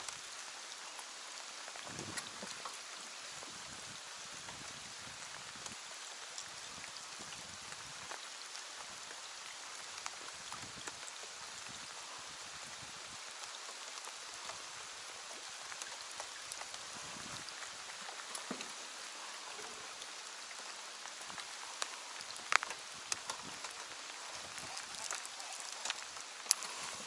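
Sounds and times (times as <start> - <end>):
rain pattering on water: 0.0 - 27.0.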